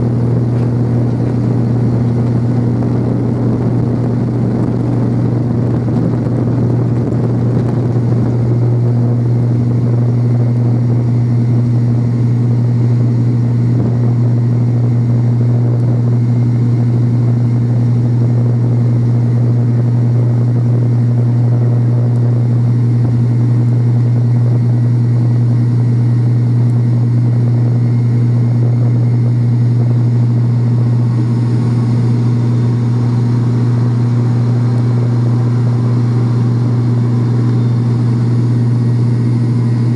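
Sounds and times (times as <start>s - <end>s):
higher engine hum: 0.0s - 39.9s
low propeller drone: 0.0s - 39.9s.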